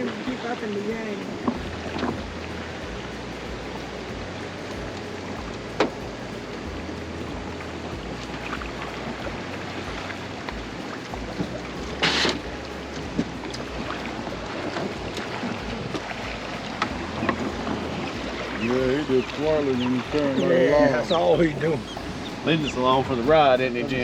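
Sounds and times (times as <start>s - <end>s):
water washing: 0.0s - 24.0s
wind noise: 0.0s - 24.0s.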